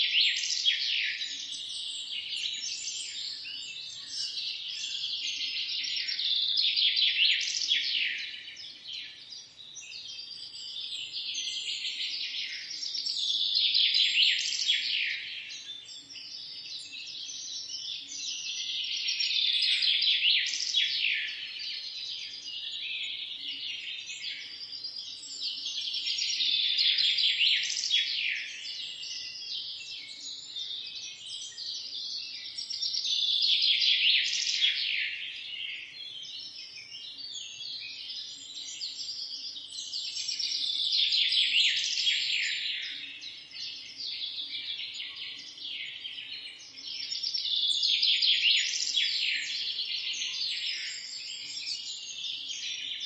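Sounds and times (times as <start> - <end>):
small birds chirping and trilling: 0.0 - 53.0.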